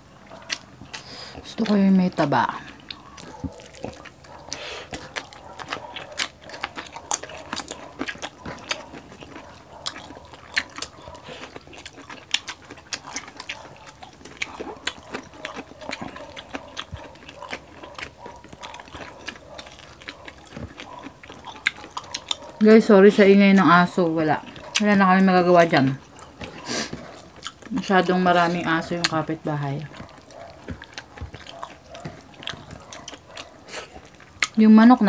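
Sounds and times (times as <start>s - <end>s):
crunching and chewing food: 0.0s - 35.0s
dogs barking: 0.2s - 35.0s.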